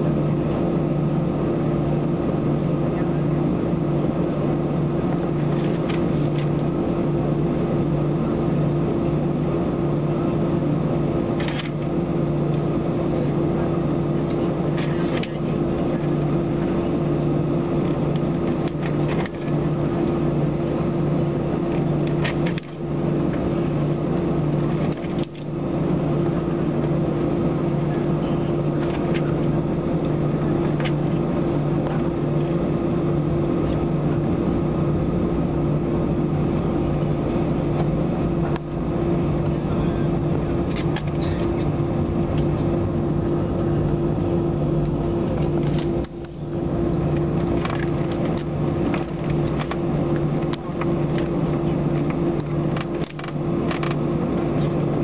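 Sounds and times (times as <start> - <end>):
aircraft cabin engine hum: 0.0 - 55.0.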